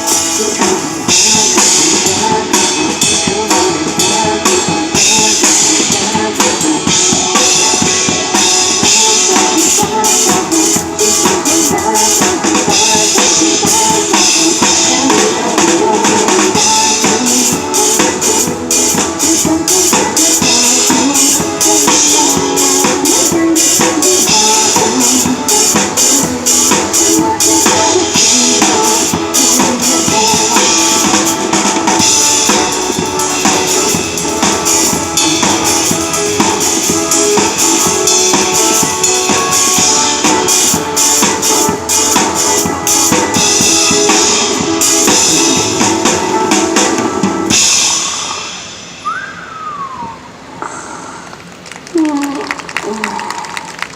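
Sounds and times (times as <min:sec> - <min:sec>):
drum beat: 0:00.0 - 0:48.1
song melody and accompaniment: 0:00.0 - 0:53.9.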